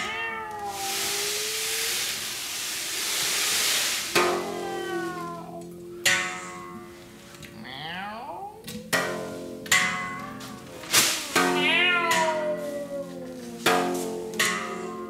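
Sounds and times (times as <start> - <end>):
loud steady hiss: 0.0 - 7.4, 8.9 - 15.0.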